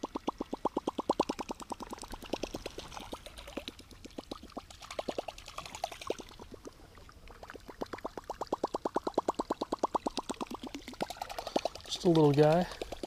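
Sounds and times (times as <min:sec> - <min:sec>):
water splashing and swishing: 0:00.0 - 0:13.0.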